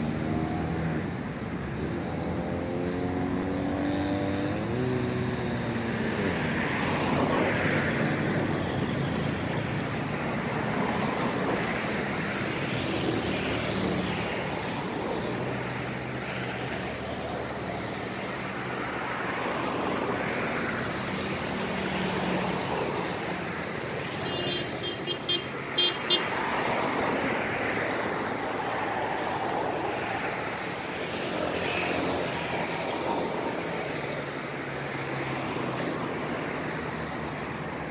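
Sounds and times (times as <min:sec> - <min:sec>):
road traffic rumble: 0:00.0 - 0:37.9.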